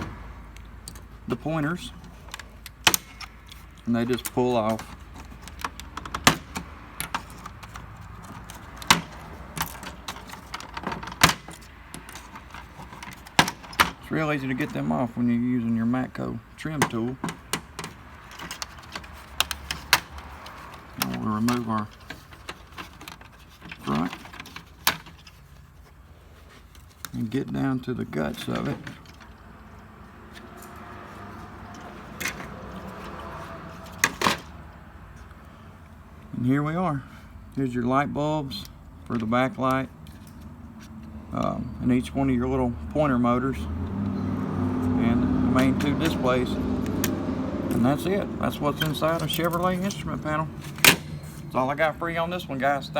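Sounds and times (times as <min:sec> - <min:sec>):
steady background noise: 0:00.0 - 0:52.9.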